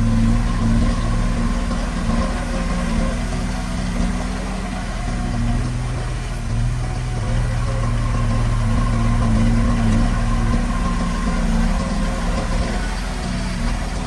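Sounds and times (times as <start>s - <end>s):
heavy machinery diesel engine running: 0.0s - 14.0s.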